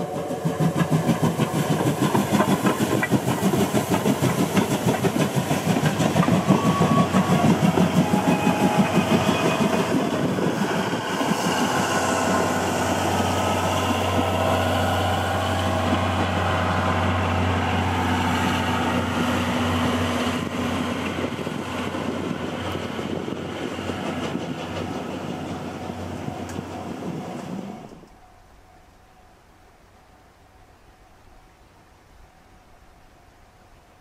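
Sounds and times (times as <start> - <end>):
steam train rolling rumble: 0.0 - 34.0.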